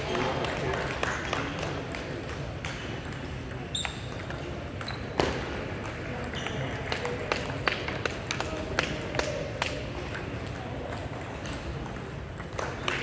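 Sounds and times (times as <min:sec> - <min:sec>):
table tennis balls clicking: 0:00.0 - 0:13.0.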